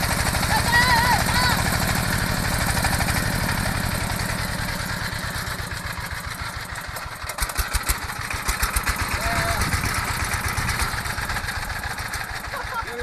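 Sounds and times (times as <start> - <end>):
small engine misfiring: 0.0 - 13.0.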